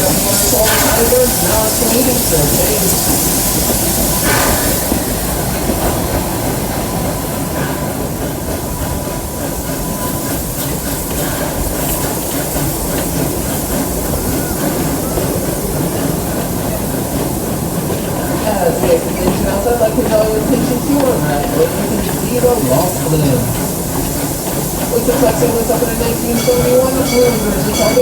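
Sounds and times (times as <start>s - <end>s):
steam hiss: 0.0s - 28.0s
train rumbling on track: 0.0s - 28.0s.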